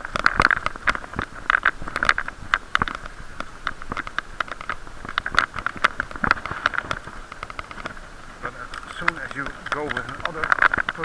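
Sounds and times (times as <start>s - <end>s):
camera case knocking and rubbing: 0.0s - 11.0s
steady muffled hum: 0.0s - 11.0s.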